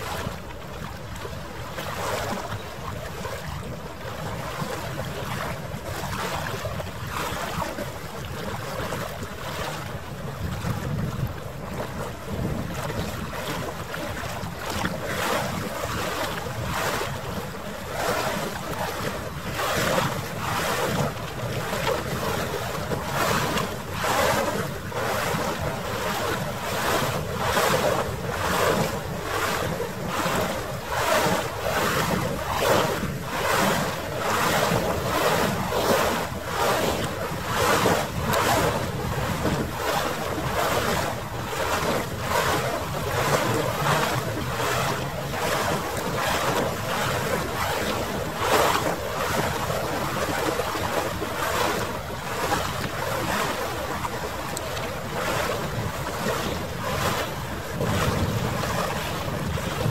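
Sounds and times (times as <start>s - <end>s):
water lapping: 0.0s - 59.9s
wind buffeting microphone: 0.0s - 59.9s.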